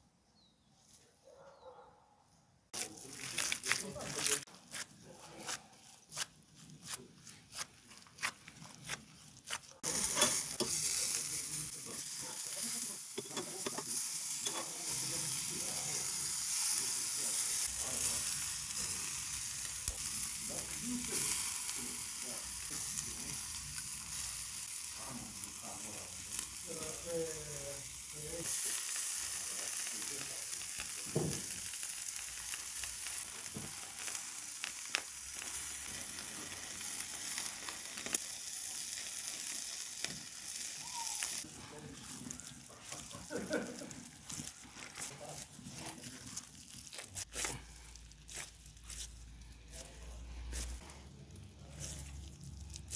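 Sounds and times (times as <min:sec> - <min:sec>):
burger patties sizzling on grill: 0:02.8 - 0:05.1, 0:06.1 - 0:52.9.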